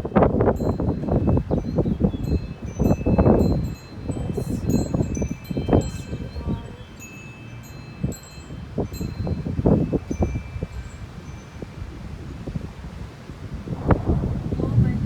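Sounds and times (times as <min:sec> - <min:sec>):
wind chimes ringing: 0:00.0 - 0:12.7
wind buffeting microphone: 0:00.0 - 0:15.0.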